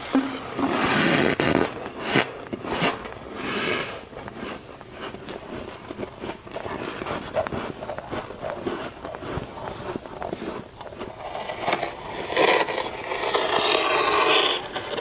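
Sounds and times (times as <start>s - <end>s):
crunchy chewing of frost: 0.0s - 15.0s.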